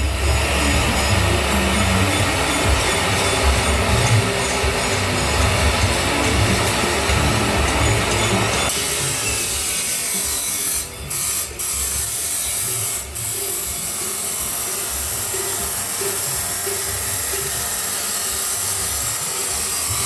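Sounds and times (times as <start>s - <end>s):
angle grinder cutting metal pipe: 0.0s - 20.0s.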